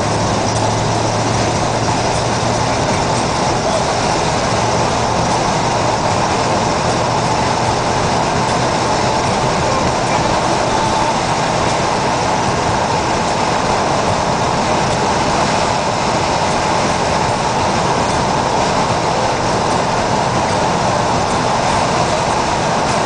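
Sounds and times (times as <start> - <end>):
car cabin road and engine noise: 0.0 - 23.0.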